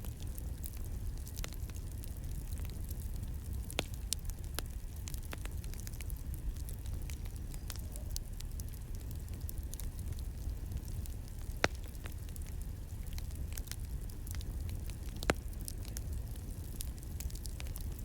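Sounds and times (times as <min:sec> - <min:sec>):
campfire crackling: 0:00.0 - 0:18.0
loud fire pops: 0:00.0 - 0:18.0.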